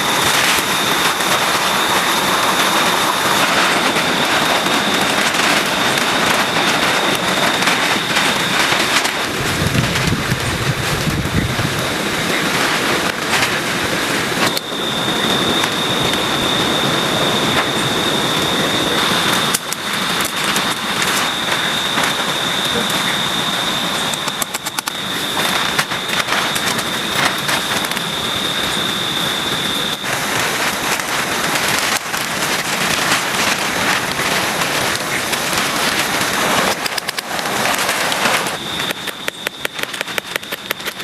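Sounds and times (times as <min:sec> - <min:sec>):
heavy rain pouring: 0:00.0 - 0:41.0
raindrops hitting close by: 0:00.0 - 0:41.0
steady high-pitched tone: 0:00.0 - 0:41.0.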